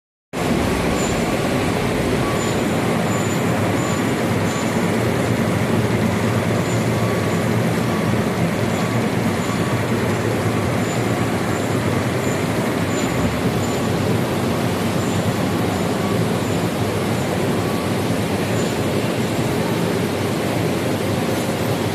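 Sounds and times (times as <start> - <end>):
printing press running: 0.4 - 21.9.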